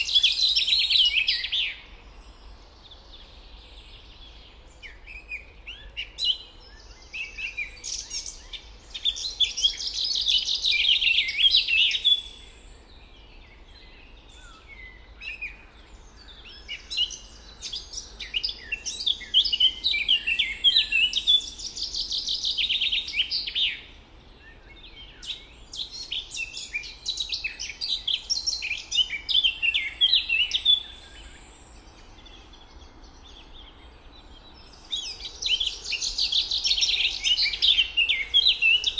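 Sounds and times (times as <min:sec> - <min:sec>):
faint background noise: 0:00.0 - 0:38.9
songbird singing: 0:00.0 - 0:38.9.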